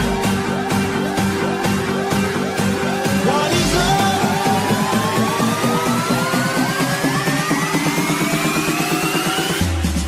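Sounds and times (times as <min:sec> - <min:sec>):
rising synth sweep: 0:00.0 - 0:09.8
electronic dance music: 0:00.0 - 0:10.0
heavy bass drop: 0:00.0 - 0:10.0.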